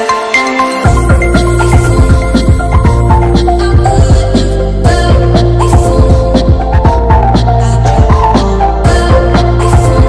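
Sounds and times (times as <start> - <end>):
electronic music with drum beat: 0.0 - 10.0
deep bass: 0.9 - 10.0.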